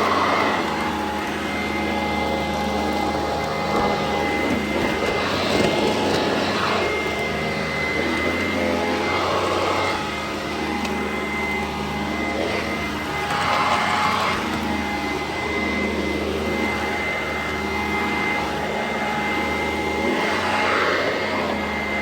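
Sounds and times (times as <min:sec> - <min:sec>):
vacuum cleaner whining: 0:00.0 - 0:22.0.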